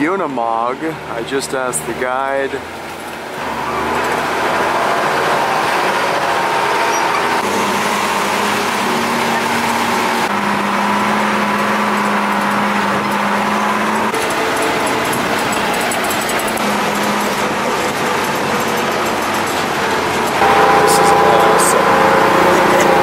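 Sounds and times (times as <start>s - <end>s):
truck engine running: 0.0s - 23.0s
tyre and road noise: 0.0s - 23.0s.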